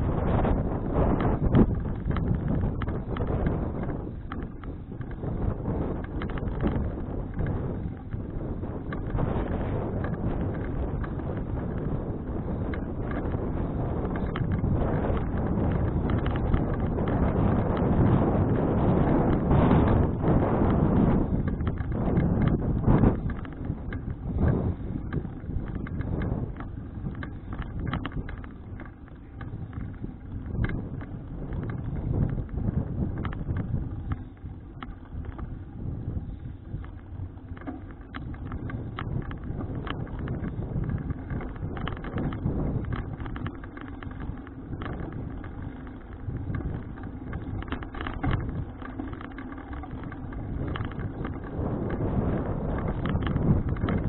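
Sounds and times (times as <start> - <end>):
bicycle clicks and rattles: 0.0 - 54.0
wind buffeting microphone: 0.0 - 54.0.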